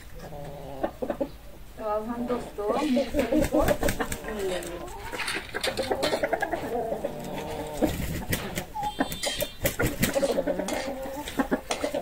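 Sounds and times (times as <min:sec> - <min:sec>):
pigeons cooing: 0:00.0 - 0:01.4, 0:02.4 - 0:12.0
hens clucking: 0:00.0 - 0:12.0.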